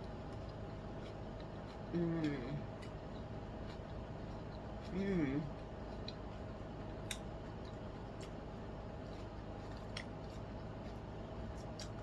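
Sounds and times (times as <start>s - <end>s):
background hum: 0.0s - 12.0s
person chewing salad: 0.0s - 12.0s.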